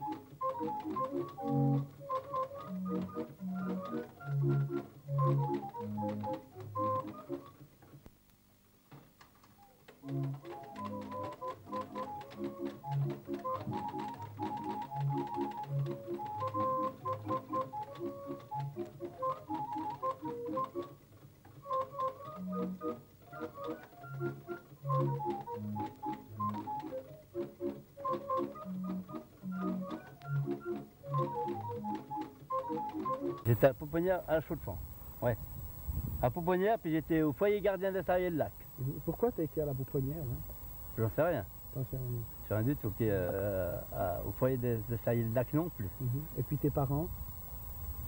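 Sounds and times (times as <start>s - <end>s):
organ music: 0.0s - 7.6s, 10.0s - 21.0s, 21.6s - 48.0s.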